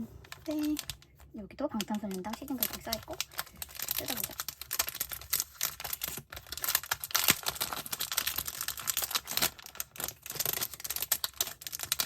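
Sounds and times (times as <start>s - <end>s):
paper wrapping being torn: 1.8s - 12.0s.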